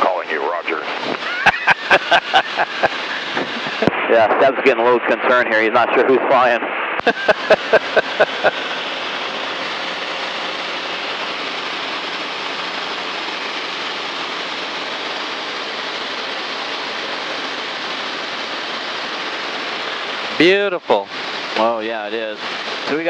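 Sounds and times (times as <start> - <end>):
light aircraft cabin noise: 0.0 - 18.7.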